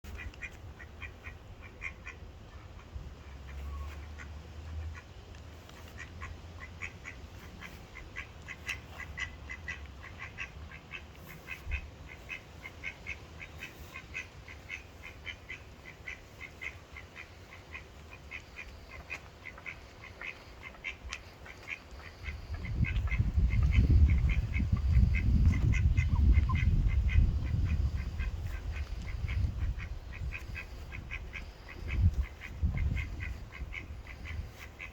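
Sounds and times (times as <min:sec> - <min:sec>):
ducks quacking: 0:00.1 - 0:34.9.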